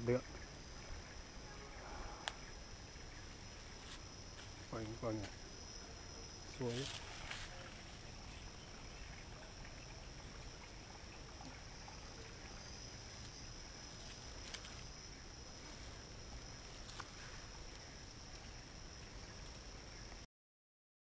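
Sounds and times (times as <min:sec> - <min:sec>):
faint hiss: 0:00.0 - 0:20.3.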